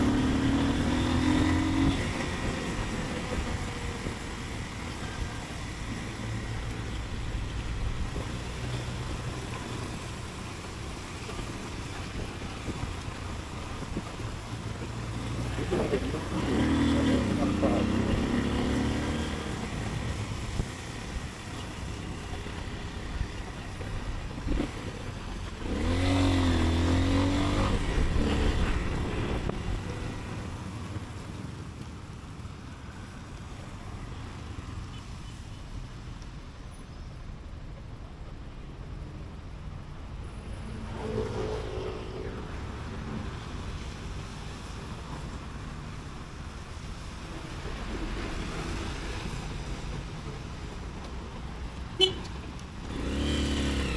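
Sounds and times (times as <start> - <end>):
passing vehicle engine: 0.0 - 35.4, 39.6 - 53.9
motorcycle engine and road noise: 0.0 - 53.9.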